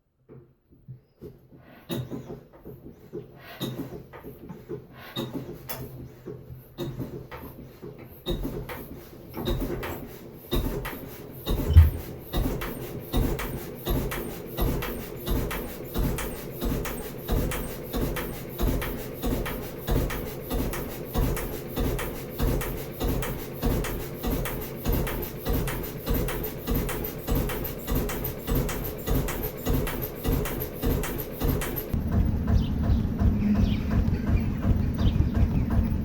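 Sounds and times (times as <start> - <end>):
diesel engine running steadily: 2.5 - 36.0.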